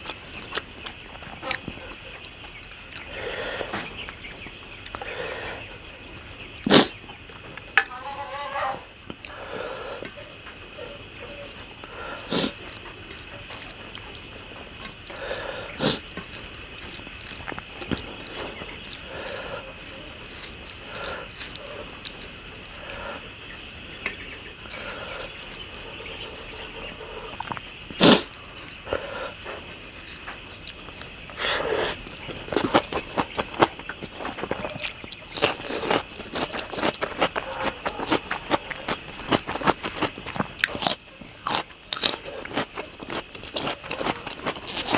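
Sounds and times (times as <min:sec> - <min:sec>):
chewing and mouth noises: 0:00.0 - 0:05.9, 0:09.0 - 0:44.9
crickets chirring: 0:00.0 - 0:44.9
crunching: 0:00.0 - 0:44.9.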